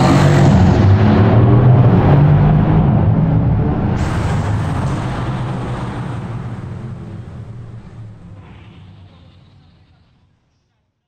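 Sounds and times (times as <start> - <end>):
sports car engine echoing in tunnel: 0.0 - 10.2.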